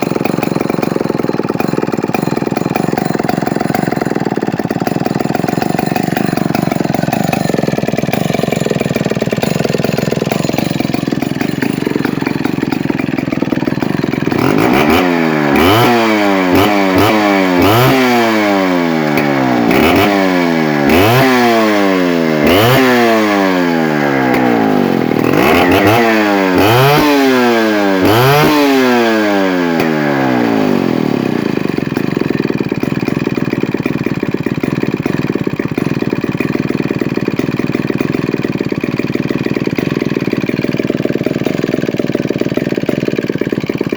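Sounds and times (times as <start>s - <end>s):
chainsaw engine idling and revving: 0.0s - 43.9s.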